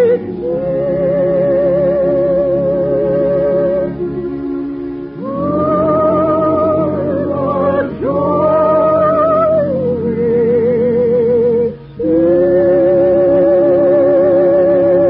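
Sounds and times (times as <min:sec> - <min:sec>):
lullaby sung with orchestra: 0:00.0 - 0:15.0.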